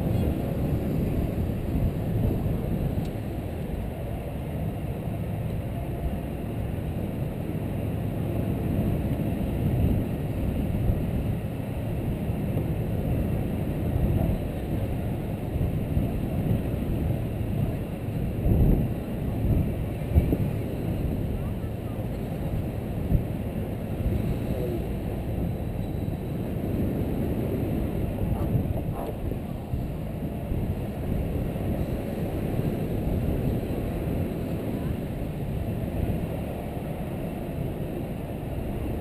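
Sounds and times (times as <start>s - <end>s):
engine hum: 0.0s - 39.0s
wind buffeting microphone: 0.0s - 39.0s.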